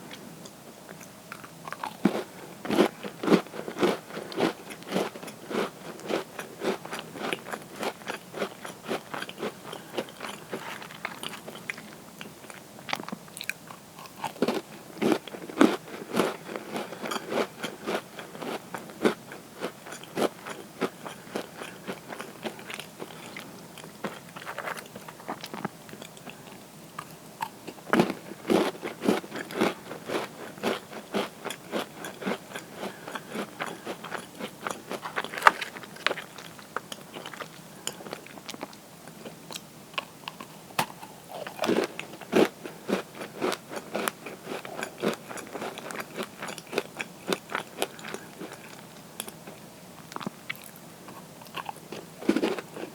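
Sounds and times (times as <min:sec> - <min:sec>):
crunchy chewing of cookies: 0:00.0 - 0:52.9.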